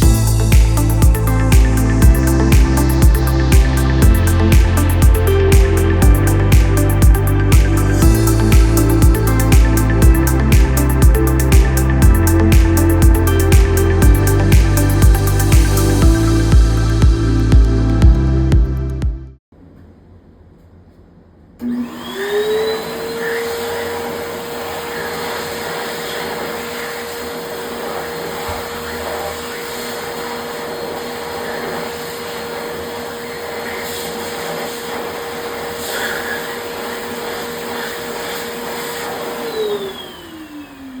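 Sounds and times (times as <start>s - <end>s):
hand dryer motor whine: 0.0s - 18.0s, 21.6s - 41.0s.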